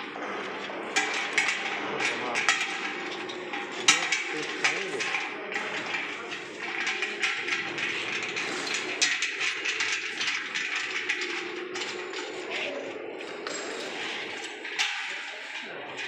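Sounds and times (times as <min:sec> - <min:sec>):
metal clinks and knocks: 0:00.0 - 0:16.0
voices talking: 0:00.0 - 0:16.0.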